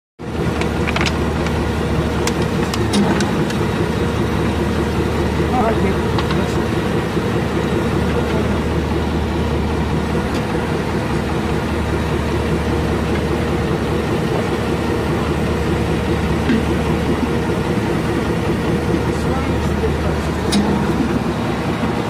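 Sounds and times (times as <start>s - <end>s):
diesel engine idling: 0.2s - 22.0s.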